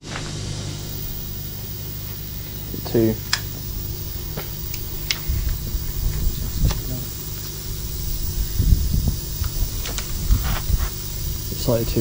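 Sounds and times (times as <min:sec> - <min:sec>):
low uneven rumble: 0:00.1 - 0:12.0.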